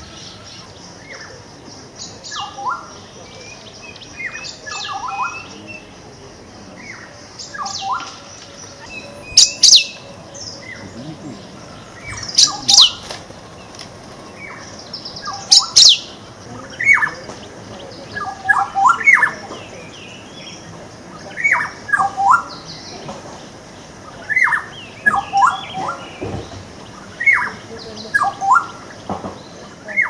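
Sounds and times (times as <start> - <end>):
songbirds singing: 0.0 - 30.0.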